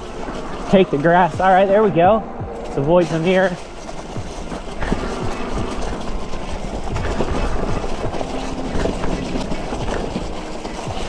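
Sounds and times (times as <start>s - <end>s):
fat tires rolling on grass: 0.0s - 11.0s
wind buffeting microphone: 0.0s - 11.0s.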